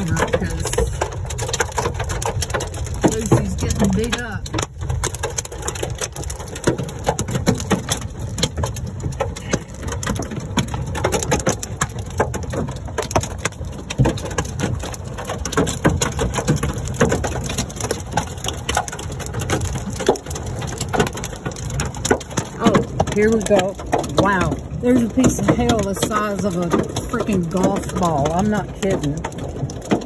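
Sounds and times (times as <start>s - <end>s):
hailstones clattering on car: 0.0s - 30.0s
rain hiss: 0.0s - 30.0s.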